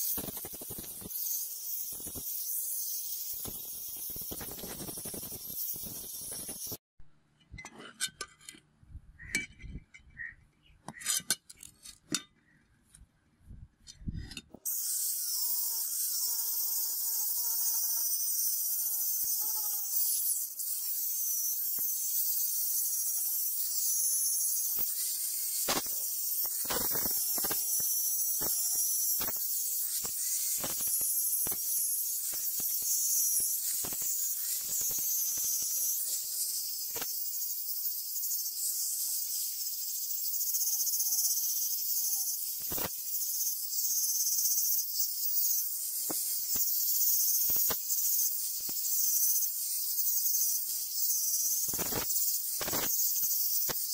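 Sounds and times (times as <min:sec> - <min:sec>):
angle grinder grinding steel: 0:00.0 - 0:06.8, 0:14.6 - 0:53.9.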